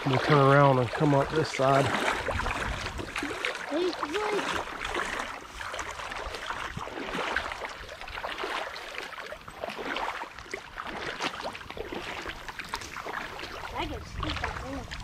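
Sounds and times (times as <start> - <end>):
flowing creek: 0.0 - 15.0
people wading through water: 0.0 - 15.0.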